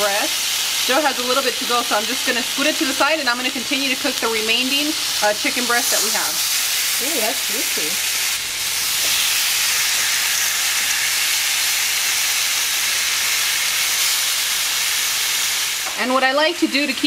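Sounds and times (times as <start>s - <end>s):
chicken sizzling in grill pan: 0.0s - 17.0s.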